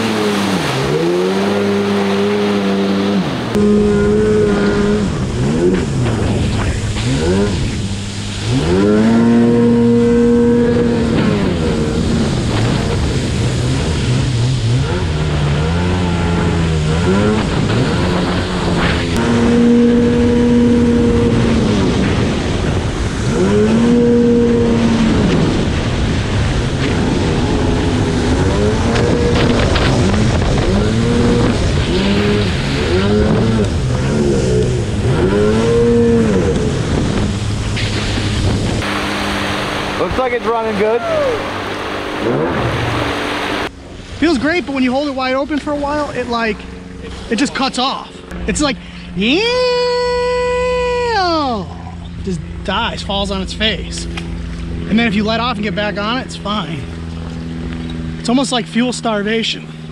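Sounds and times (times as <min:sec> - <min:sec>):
personal watercraft engine revving: 0:00.0 - 0:59.9.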